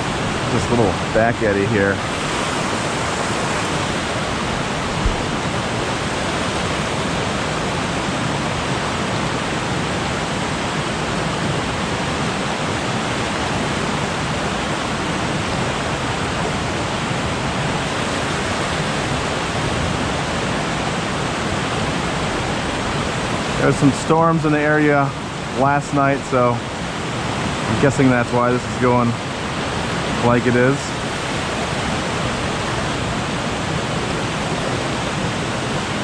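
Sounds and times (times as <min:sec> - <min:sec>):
creek rushing over waterfall: 0:00.0 - 0:36.0.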